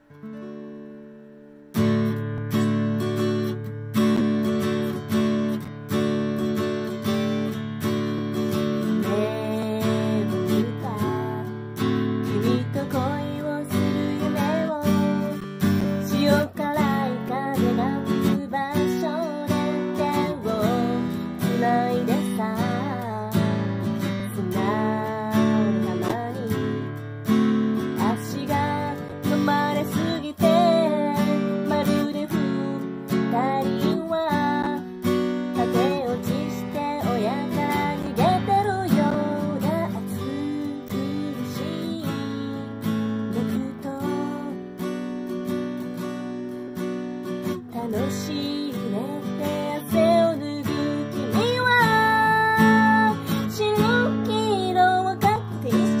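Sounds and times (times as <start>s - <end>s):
acoustic guitar strumming chords: 0.0s - 56.0s
woman singing: 6.4s - 56.0s.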